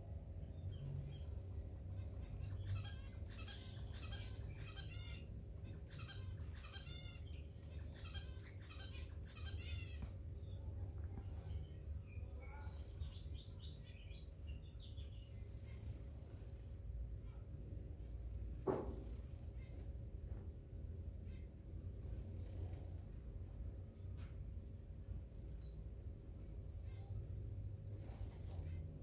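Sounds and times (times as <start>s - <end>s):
low steady hum: 0.0s - 29.0s
small birds chirping and trilling: 0.0s - 29.0s.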